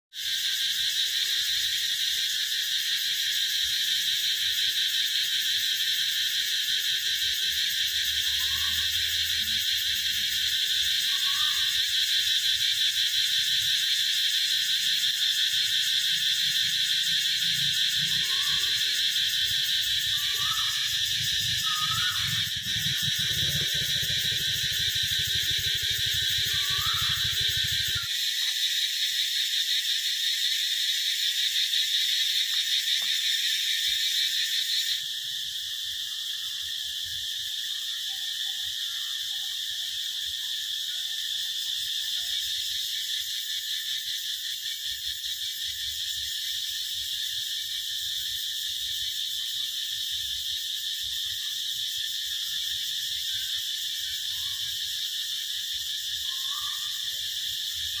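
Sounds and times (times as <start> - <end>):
cicadas buzzing: 0.1 - 58.0.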